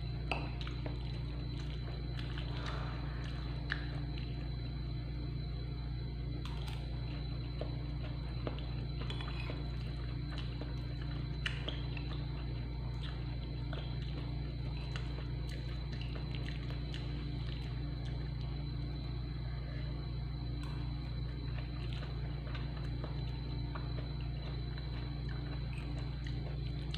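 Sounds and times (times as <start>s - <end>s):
steady low hum: 0.0s - 26.9s
chewing: 0.2s - 4.7s, 6.3s - 19.1s, 20.4s - 26.9s.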